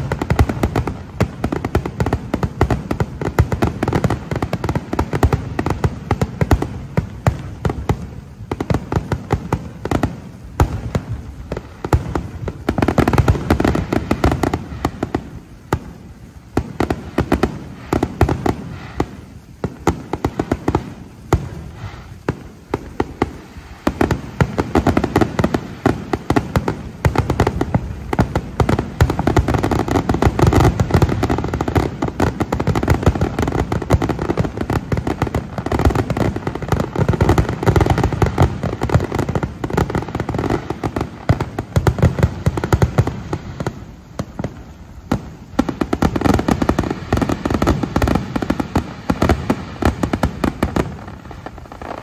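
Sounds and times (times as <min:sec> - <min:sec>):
fireworks booming and crackling: 0:00.0 - 0:52.0.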